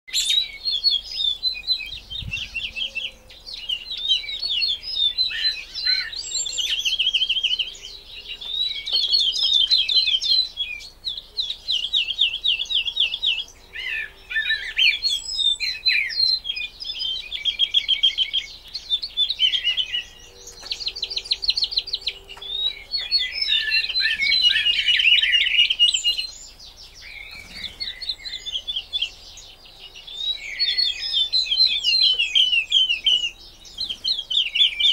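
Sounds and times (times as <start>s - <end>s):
woodlark singing: 0.1s - 34.9s.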